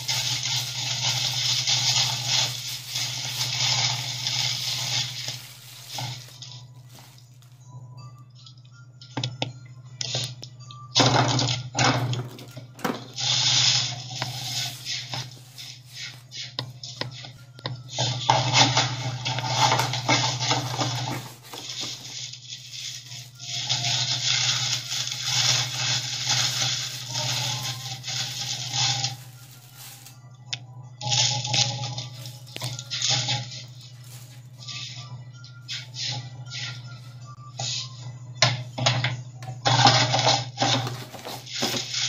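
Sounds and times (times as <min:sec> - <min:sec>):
plastic wrapping crinkling: 0:00.0 - 0:08.4, 0:11.8 - 0:36.0, 0:39.7 - 0:42.0.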